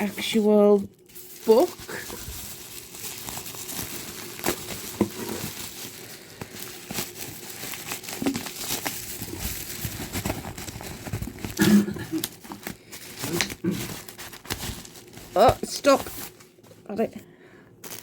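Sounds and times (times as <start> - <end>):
packaging crinkling and rustling: 0.0 - 16.9, 17.8 - 18.0.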